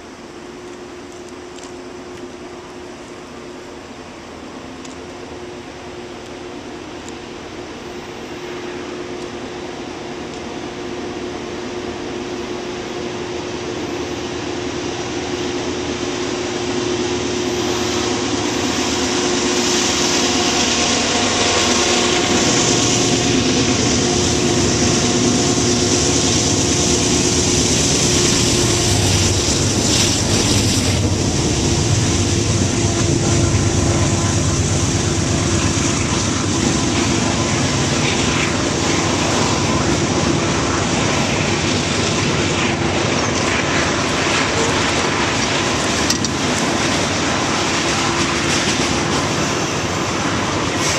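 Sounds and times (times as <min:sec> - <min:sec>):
diesel locomotives running: 0:00.0 - 0:50.9
freight cars rolling on rails: 0:06.2 - 0:50.9.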